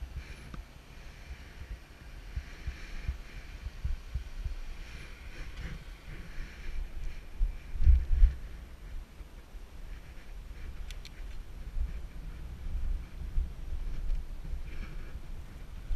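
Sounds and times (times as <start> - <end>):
wind buffeting camera: 1.3 - 15.9
bicycle rolling thumps and rumble: 1.6 - 15.9.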